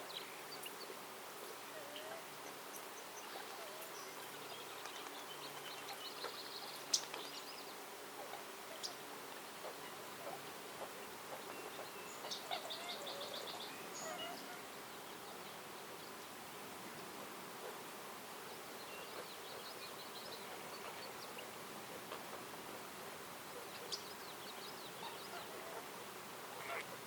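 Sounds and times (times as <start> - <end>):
steady background hiss: 0.0 - 27.0
woodland birds singing: 0.0 - 27.0.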